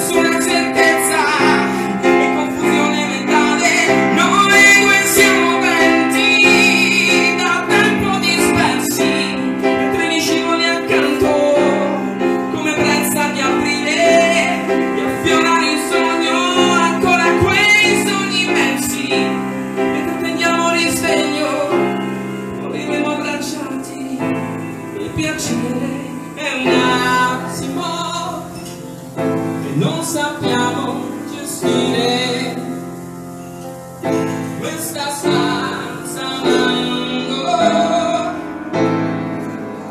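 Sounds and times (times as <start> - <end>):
woman singing: 0.0 - 28.8, 29.6 - 32.8, 34.6 - 38.5
grand piano chords: 0.0 - 39.9.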